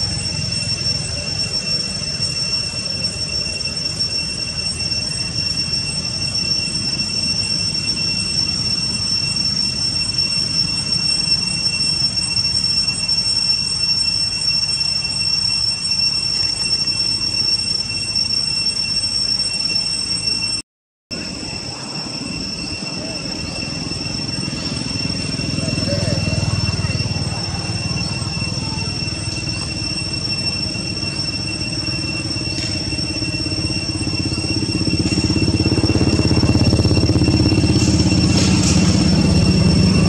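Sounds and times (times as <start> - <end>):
steady high-pitched whine: 0.0 - 40.0.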